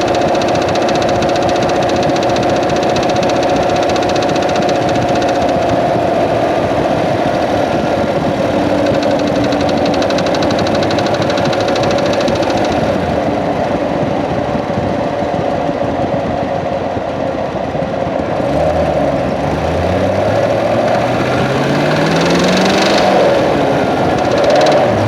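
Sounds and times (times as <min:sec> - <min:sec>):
car engine running: 0:00.0 - 0:25.0
fast ticking clatter: 0:00.0 - 0:25.0.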